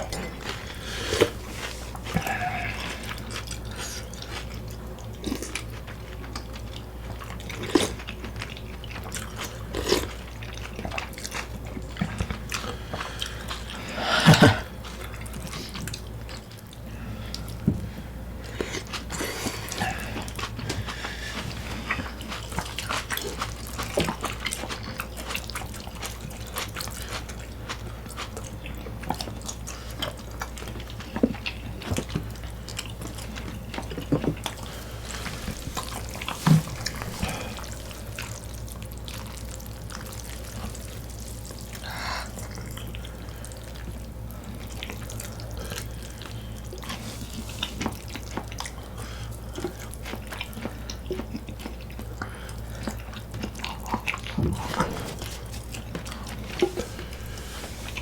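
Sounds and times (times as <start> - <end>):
wet chewing and mouth smacking: 0.0 - 17.6, 18.4 - 58.0.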